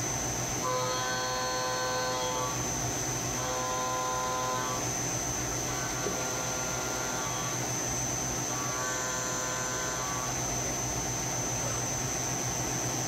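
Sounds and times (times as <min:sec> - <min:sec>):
milling machine whine: 0:00.0 - 0:13.0
phase converter hum: 0:00.0 - 0:13.0.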